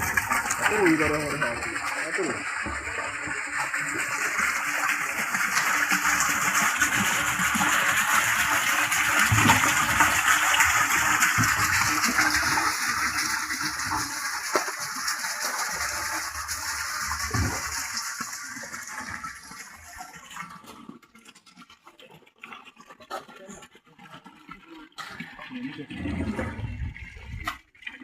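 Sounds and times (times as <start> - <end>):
water gushing: 0.0 - 28.0.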